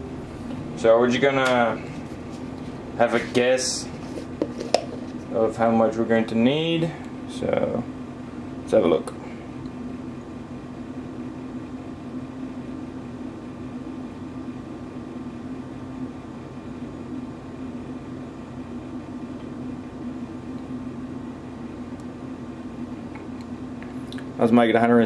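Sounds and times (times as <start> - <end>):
air conditioner hum with hiss: 0.0 - 25.0.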